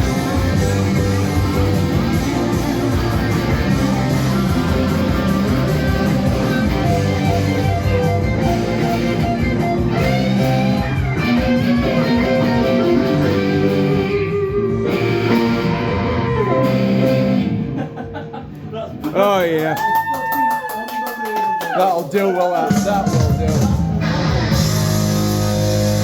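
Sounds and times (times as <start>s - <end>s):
electric guitar music: 0.0s - 18.6s, 22.7s - 26.0s.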